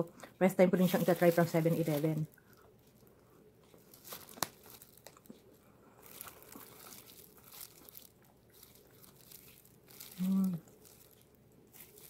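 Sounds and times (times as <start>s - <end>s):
plastic packaging crinkling: 0.7s - 12.0s.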